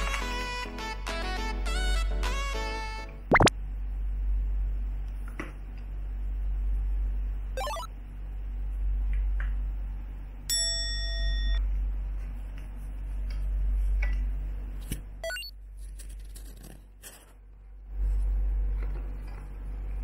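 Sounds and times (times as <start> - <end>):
low steady hum: 3.1 - 20.0.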